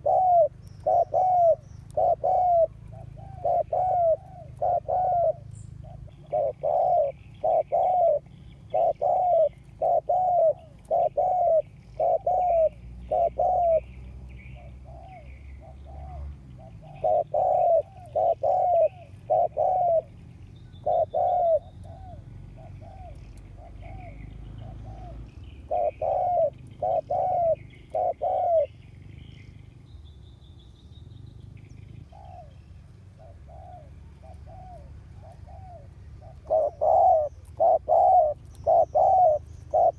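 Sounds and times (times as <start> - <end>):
dove cooing: 0.0 - 29.6, 31.8 - 39.9
small birds chirping faintly: 0.0 - 39.9.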